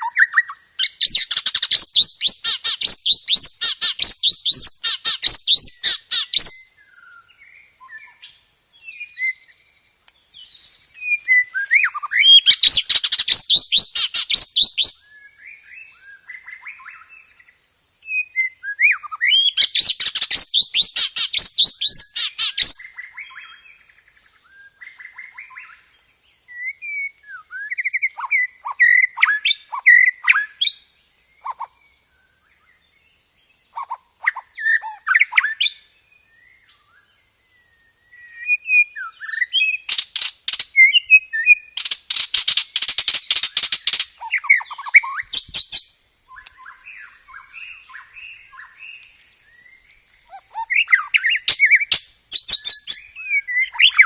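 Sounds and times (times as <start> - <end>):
bird singing whistles and chirps: 0.0 - 54.0.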